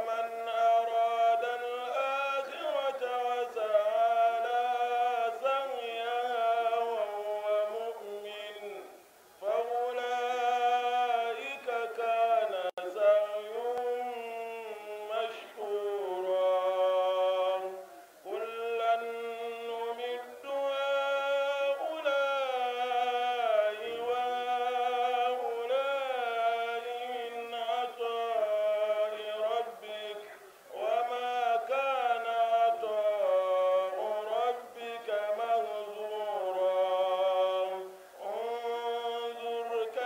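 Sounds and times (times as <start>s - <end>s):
man chanting: 0.0s - 40.0s.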